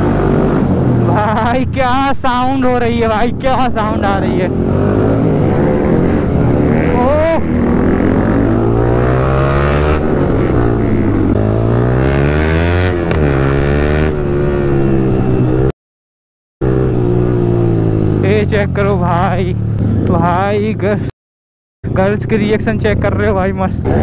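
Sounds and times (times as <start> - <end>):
motorcycles revving: 0.0 - 15.7, 16.6 - 21.1, 21.8 - 24.0.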